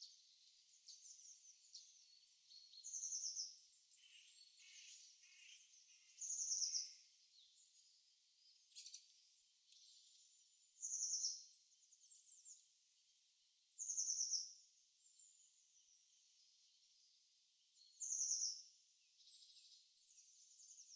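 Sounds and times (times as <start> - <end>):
faint bird chirps: 0.0 - 20.9.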